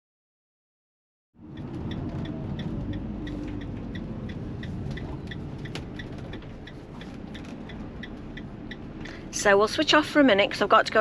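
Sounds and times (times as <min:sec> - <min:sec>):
engine idling: 0:01.4 - 0:10.8.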